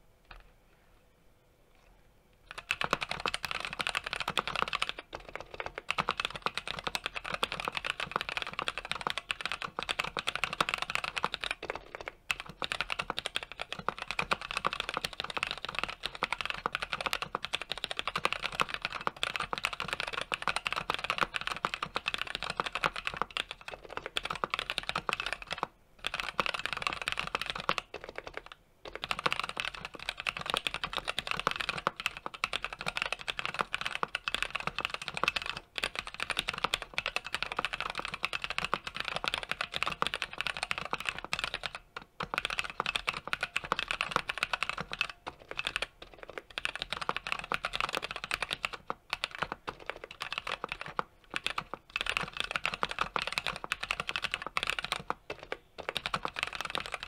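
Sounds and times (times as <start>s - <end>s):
fast mechanical keyboard typing: 2.5s - 57.0s.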